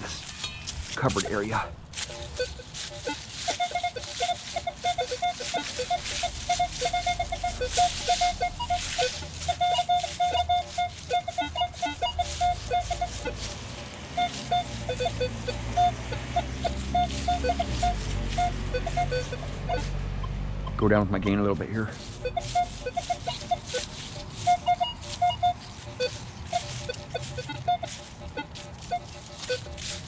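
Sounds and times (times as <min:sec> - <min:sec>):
coil scuffing ground: 0:00.0 - 0:20.0, 0:21.2 - 0:30.0
metal detector short beeps: 0:01.0 - 0:13.6, 0:14.2 - 0:21.4, 0:22.0 - 0:30.0.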